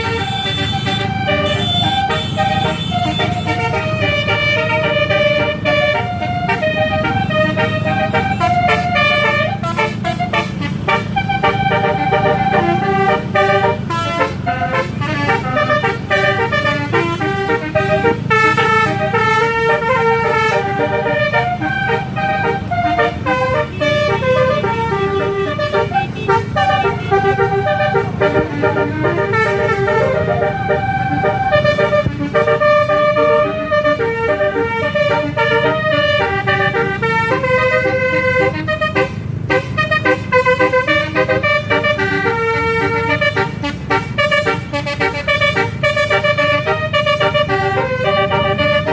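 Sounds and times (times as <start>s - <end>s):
bus engine rumble: 0.0s - 48.9s
bus horns playing a melody: 0.0s - 48.9s.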